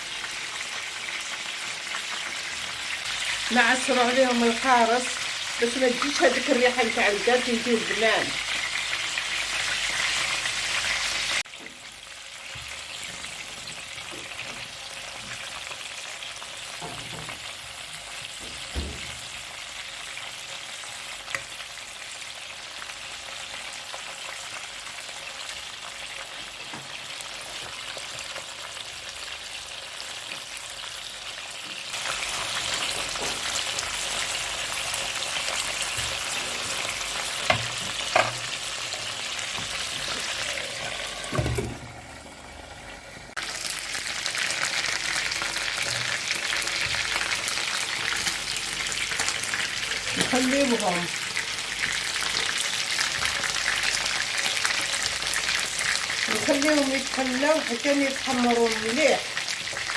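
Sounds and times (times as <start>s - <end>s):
food sizzling in oil: 0.0s - 59.9s.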